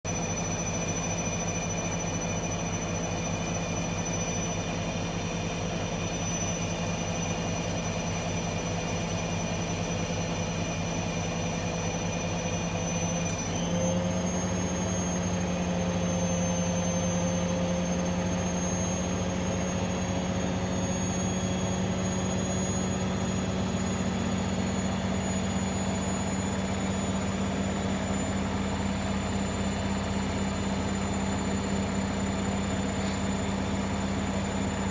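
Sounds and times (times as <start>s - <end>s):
washing machine whine and hum: 0.0s - 34.9s.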